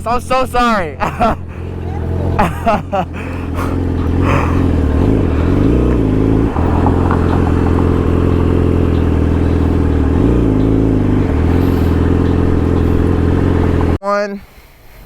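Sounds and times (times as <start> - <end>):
motorcycle engine running: 1.0 - 14.0.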